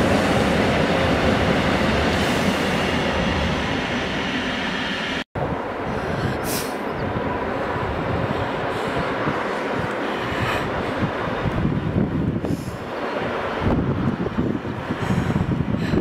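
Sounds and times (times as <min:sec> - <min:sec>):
distant train rumble: 0:00.0 - 0:16.0
train rumbling over steel bridge: 0:00.0 - 0:16.0.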